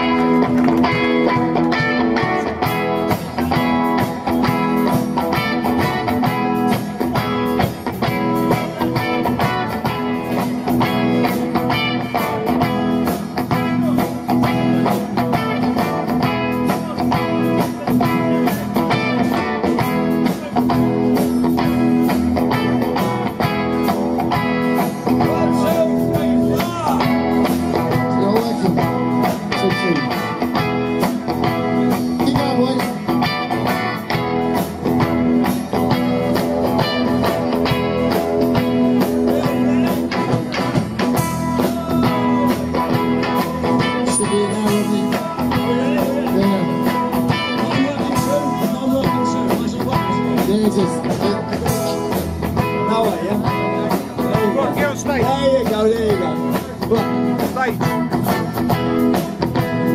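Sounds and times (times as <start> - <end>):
rock band with guitars: 0.0 - 59.9.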